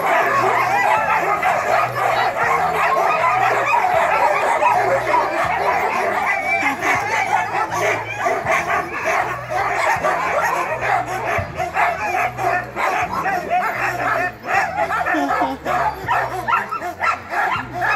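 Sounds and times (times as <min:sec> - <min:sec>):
sled dogs barking and yelping: 0:00.0 - 0:17.9.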